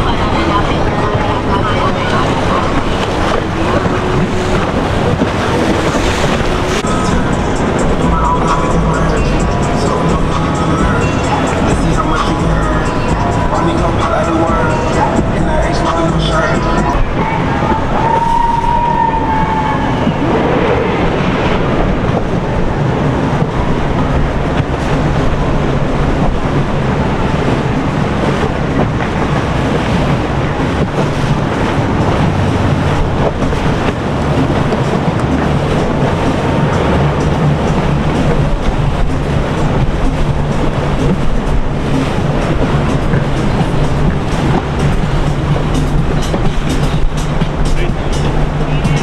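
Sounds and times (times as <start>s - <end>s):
boat engine running: 0.0s - 49.0s
loud rushing noise: 0.0s - 49.0s.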